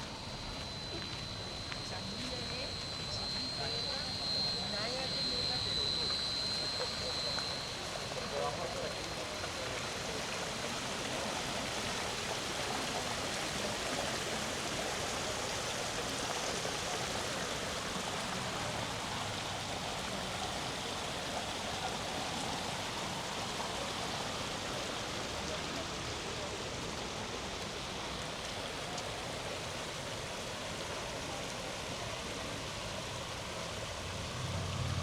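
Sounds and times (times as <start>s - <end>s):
rushing water: 0.0s - 35.0s.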